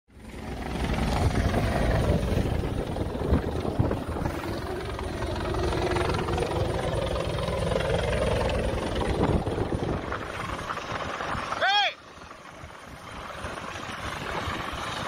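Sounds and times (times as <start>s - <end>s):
boat engines rumbling: 0.2s - 15.0s
wind buffeting microphone: 0.3s - 15.0s.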